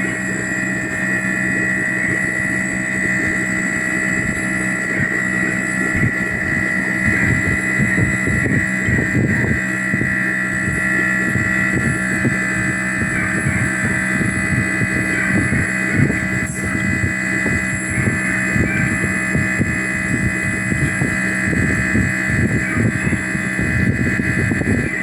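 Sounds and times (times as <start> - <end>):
airbrush compressor humming and whining: 0.0 - 25.0.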